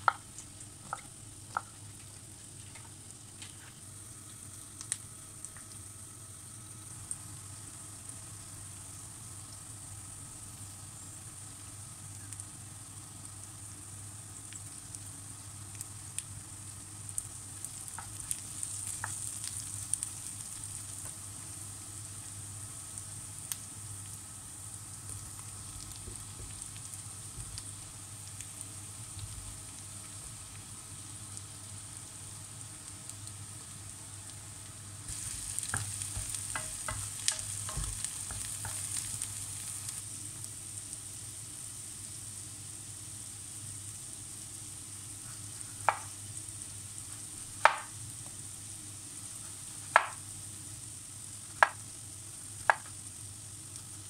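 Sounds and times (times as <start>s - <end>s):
vegetables sizzling in frying pan: 0.0s - 54.0s.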